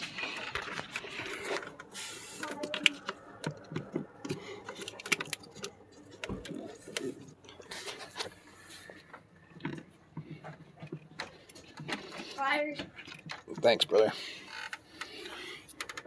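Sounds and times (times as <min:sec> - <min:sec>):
clicks and rattles of plastic parts: 0:00.0 - 0:08.3, 0:09.1 - 0:16.0.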